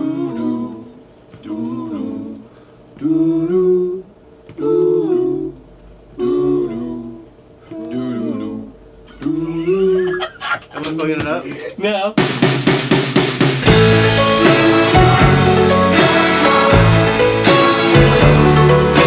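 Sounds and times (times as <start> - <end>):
men humming in harmony: 0.0 - 10.4, 13.7 - 19.0.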